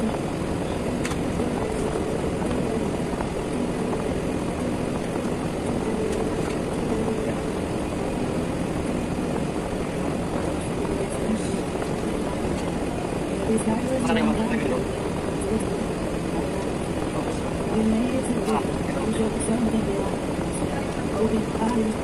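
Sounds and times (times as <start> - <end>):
machine droning with low hum: 0.0 - 22.0.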